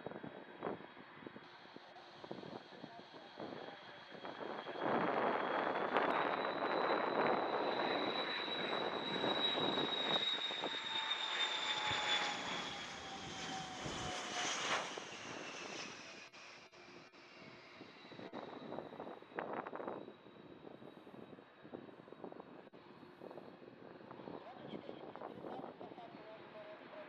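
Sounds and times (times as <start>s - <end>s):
jet engine roar and whine: 0.0s - 27.0s.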